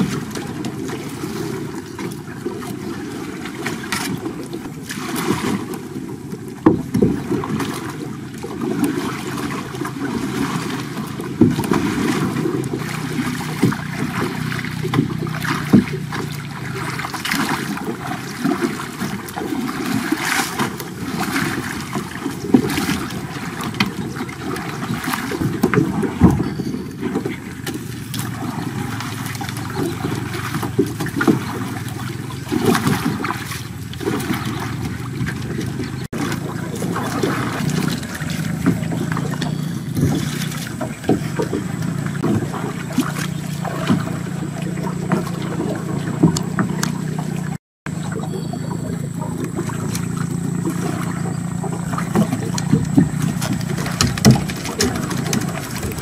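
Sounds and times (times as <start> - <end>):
boat motor hum: 0.0 - 56.0
water noise: 0.0 - 56.0.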